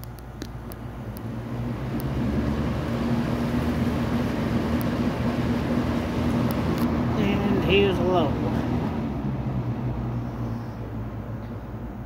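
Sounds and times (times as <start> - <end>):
box fan air rushing: 0.0 - 11.4
low motor hum: 0.0 - 12.0.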